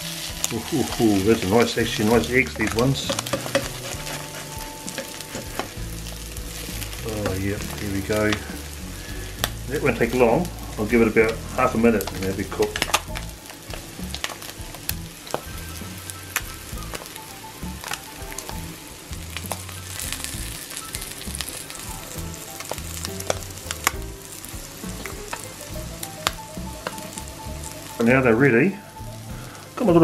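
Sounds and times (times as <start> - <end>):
fritters sizzling and crackling: 0.0 - 30.0.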